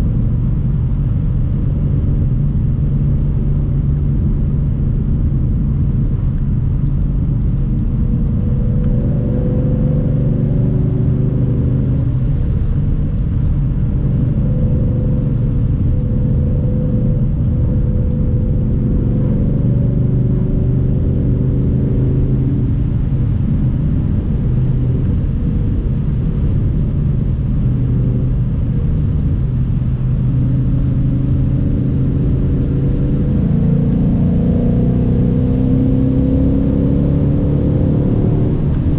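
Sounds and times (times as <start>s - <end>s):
car engine running: 0.0s - 38.9s
road rumble: 0.0s - 38.9s.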